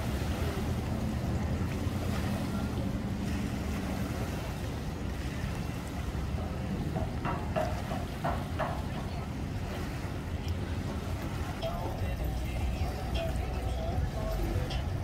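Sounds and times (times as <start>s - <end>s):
idling engines rumble: 0.0s - 15.0s
voices: 0.0s - 15.0s.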